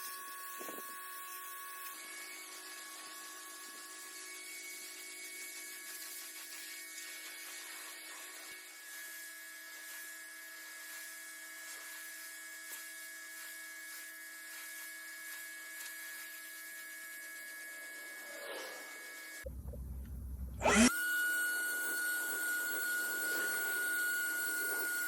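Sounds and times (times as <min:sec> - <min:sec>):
motor-driven tool whining: 0:00.0 - 0:25.0.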